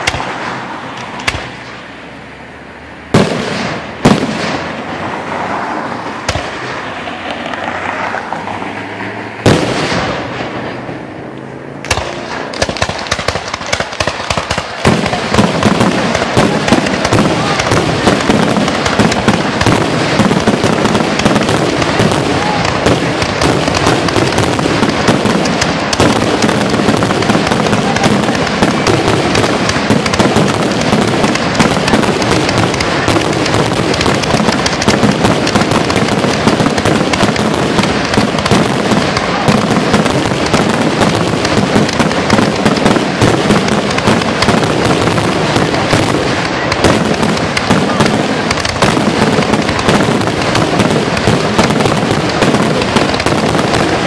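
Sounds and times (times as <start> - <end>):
fireworks launching and bursting: 0.0 - 2.0, 2.8 - 54.0.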